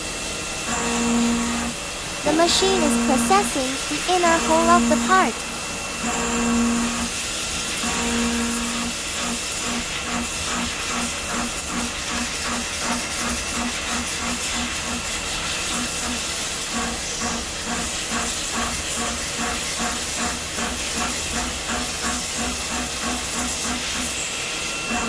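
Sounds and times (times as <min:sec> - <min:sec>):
machine cutting steel: 0:00.2 - 0:25.0.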